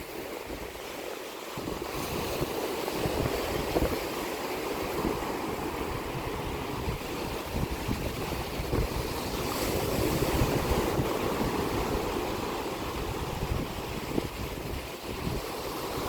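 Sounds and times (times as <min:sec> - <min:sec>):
sea waves washing onto shore: 0:00.0 - 0:16.0
wind buffeting microphone: 0:01.5 - 0:16.0.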